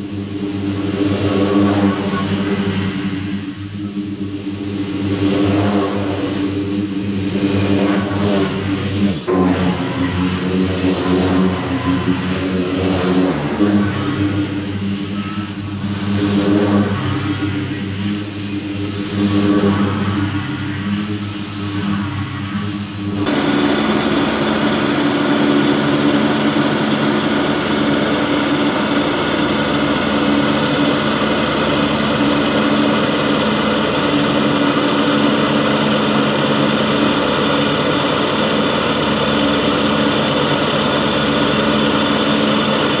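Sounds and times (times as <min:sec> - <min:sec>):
mower engine running: 0:00.0 - 0:43.0.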